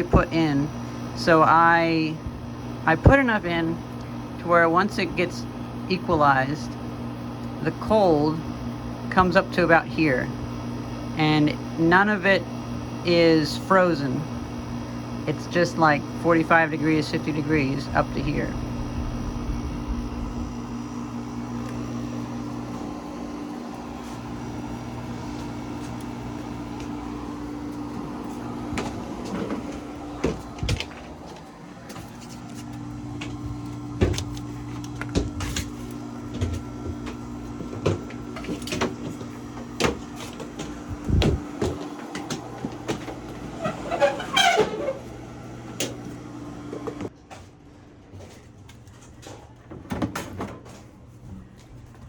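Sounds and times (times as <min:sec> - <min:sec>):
dehumidifier humming: 0:00.0 - 0:52.0.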